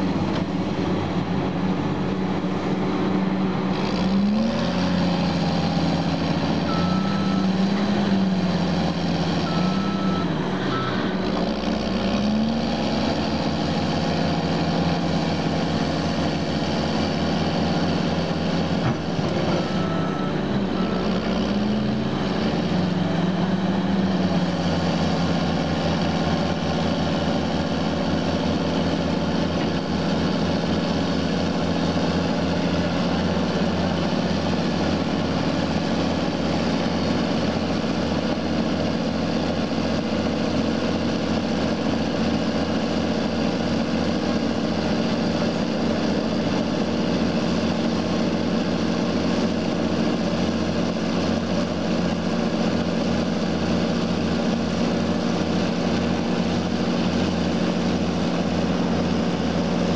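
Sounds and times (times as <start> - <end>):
heavy diesel engines: 0.0 - 59.9.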